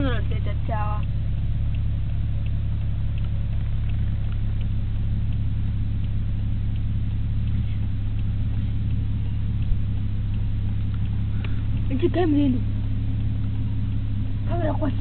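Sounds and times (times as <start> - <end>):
car engine droning: 0.0 - 15.0
faint light ticks: 0.0 - 15.0.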